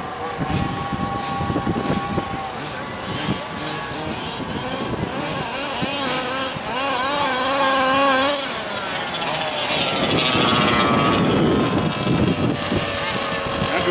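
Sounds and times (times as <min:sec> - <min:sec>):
small two-stroke engine revving: 0:00.0 - 0:13.9.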